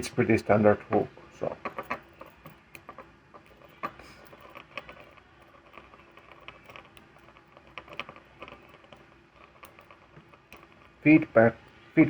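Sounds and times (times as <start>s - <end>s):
lock pick scratching and clicking: 1.4s - 12.0s.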